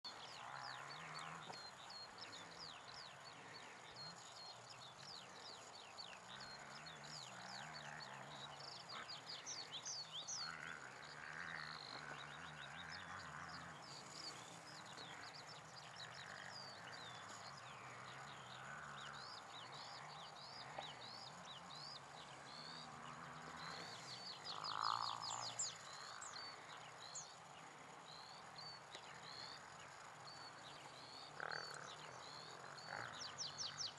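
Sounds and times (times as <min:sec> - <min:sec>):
birds chirping and trilling: 0:00.0 - 0:33.9
low croaking chorus: 0:00.0 - 0:33.9.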